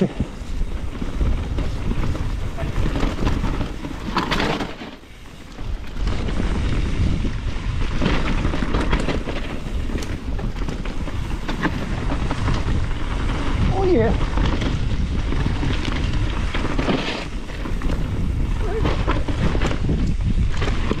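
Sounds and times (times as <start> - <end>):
bike knocks and rattles: 0.0 - 21.0
bike tyres on dirt: 0.0 - 21.0
wind buffeting microphone: 0.0 - 21.0.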